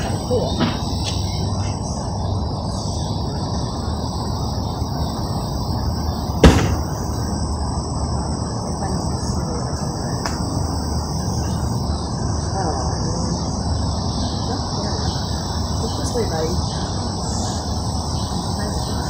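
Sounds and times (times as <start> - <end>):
insects chorus: 0.0 - 19.0
low outdoor rumble: 0.0 - 19.0.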